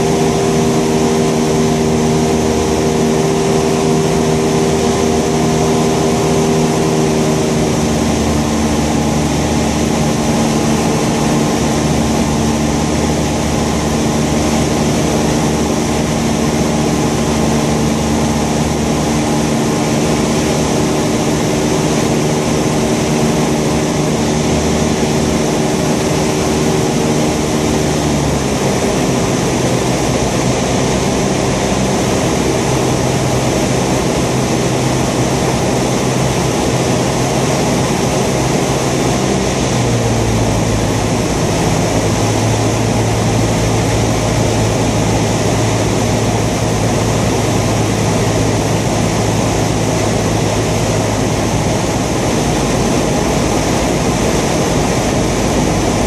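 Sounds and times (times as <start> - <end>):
microlight engine and propeller droning: 0.0 - 56.0.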